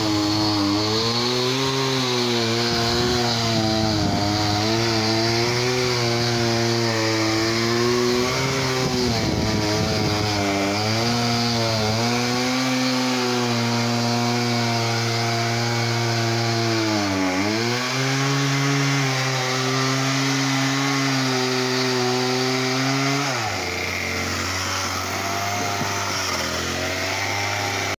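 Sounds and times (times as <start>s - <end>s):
chainsaw cutting logs: 0.0s - 28.0s.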